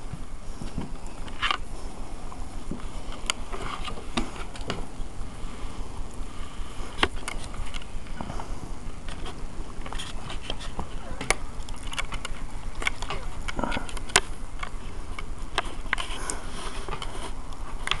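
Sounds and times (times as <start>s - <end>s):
sharp clicks and scrapes: 0.6s - 1.7s, 2.7s - 4.9s, 6.9s - 18.0s.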